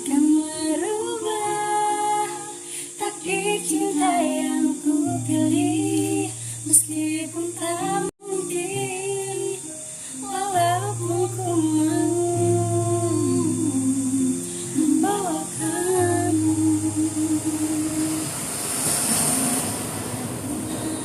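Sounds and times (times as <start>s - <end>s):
woman singing slow melody: 0.0s - 21.0s.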